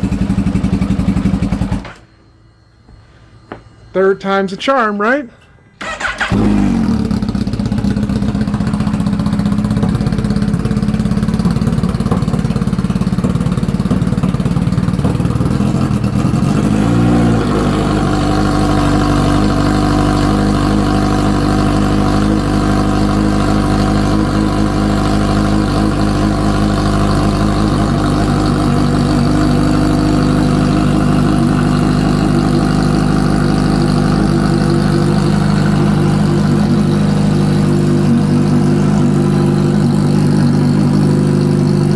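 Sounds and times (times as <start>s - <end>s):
motorcycle engine idling: 0.0s - 2.0s, 5.8s - 41.9s.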